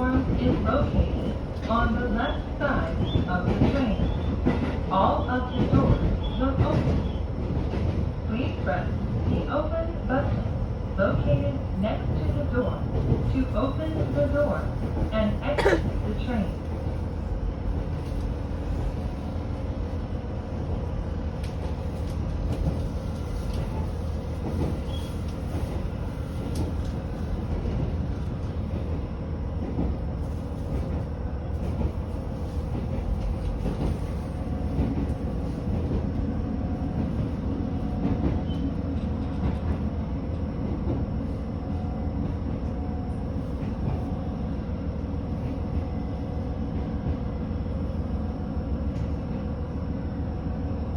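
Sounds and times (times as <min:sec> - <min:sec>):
train engine and wheels drone: 0:00.0 - 0:50.9.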